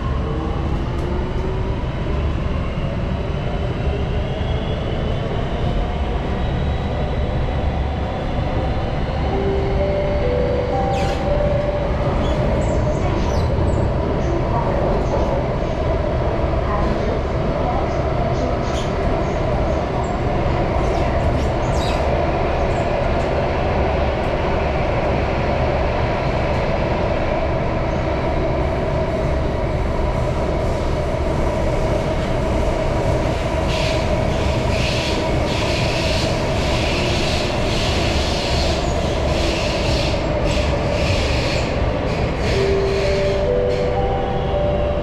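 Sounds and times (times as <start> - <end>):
train running with rumble: 0.0 - 45.0.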